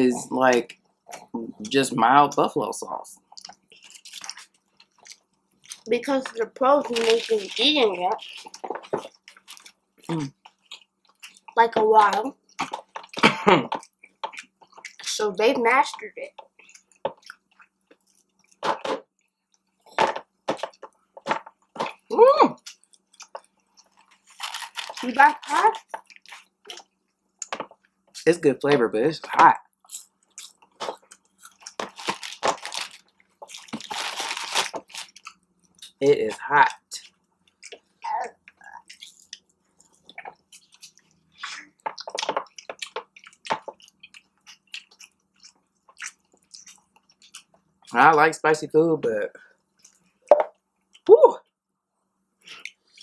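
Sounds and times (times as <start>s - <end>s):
person chewing: 3.2s - 28.3s, 29.3s - 48.0s, 49.6s - 51.1s, 52.4s - 53.0s.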